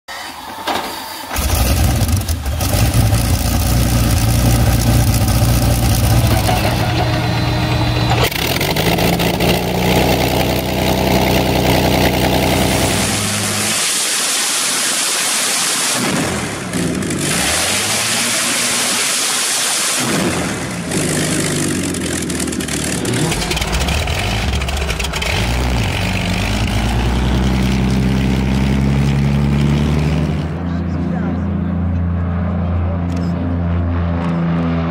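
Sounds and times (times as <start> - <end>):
aircraft engine running: 1.2 - 34.9.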